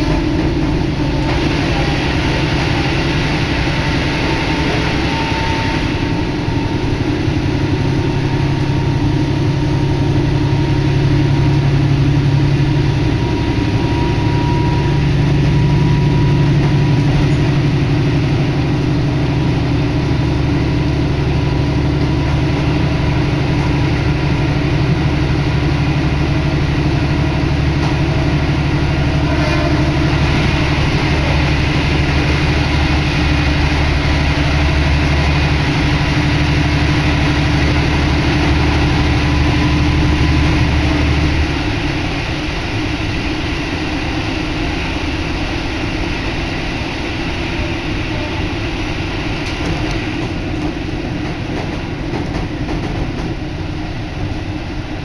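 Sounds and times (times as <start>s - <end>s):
rushing air: 0.0s - 52.0s
diesel railcar engine drone: 0.0s - 55.0s
rumble of train wheels: 0.0s - 55.0s.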